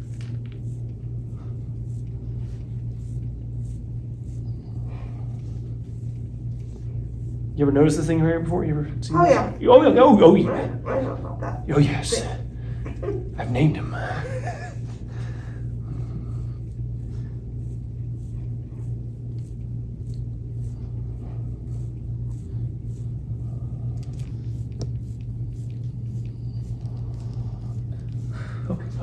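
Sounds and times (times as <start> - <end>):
low hum: 0.0 - 29.0
soft rubbing on skin: 0.0 - 29.0.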